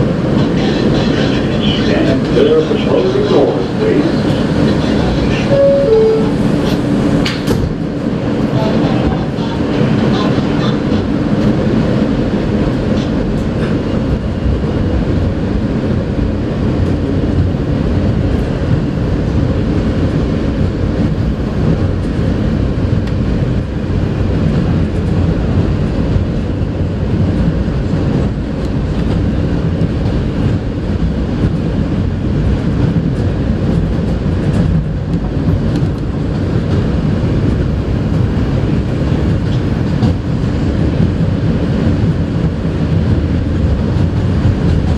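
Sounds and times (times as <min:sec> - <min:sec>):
subway wheels rumbling on rails: 0:00.0 - 0:44.9.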